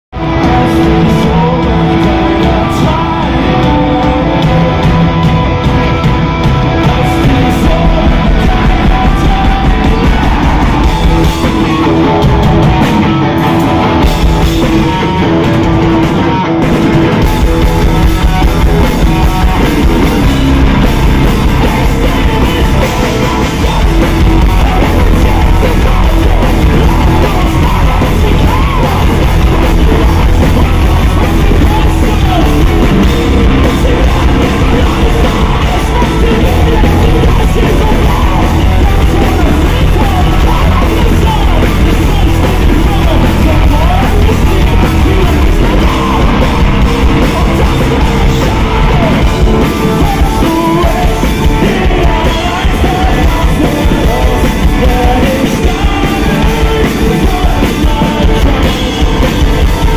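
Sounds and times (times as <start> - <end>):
bass guitar: 0.0 - 59.9
distorted guitars: 0.0 - 59.9
drums: 0.0 - 59.9.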